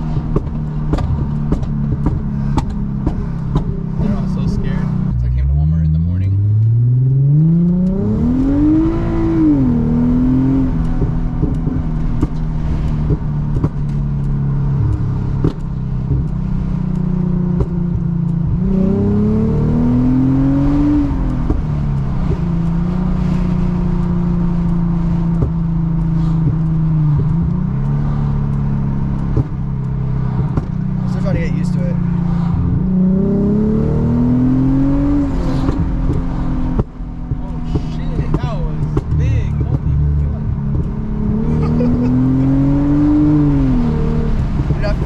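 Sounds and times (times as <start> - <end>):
car engine revving: 0.0 - 45.0
exhaust pops: 0.0 - 45.0.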